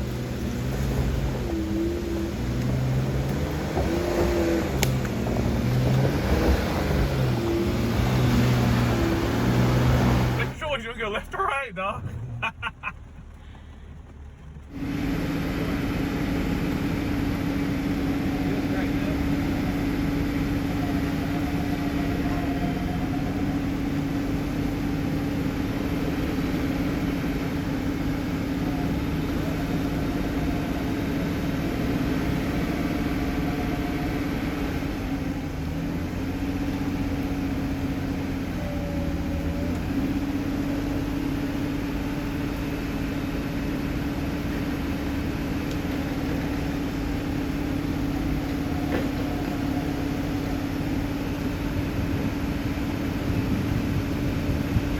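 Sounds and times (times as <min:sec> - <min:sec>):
vehicle engine running at low revs: 0:00.0 - 0:54.9.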